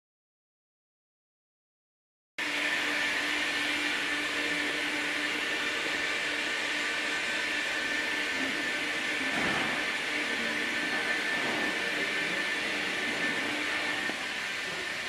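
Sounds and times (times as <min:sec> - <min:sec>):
machine whirring: 0:02.4 - 0:15.0.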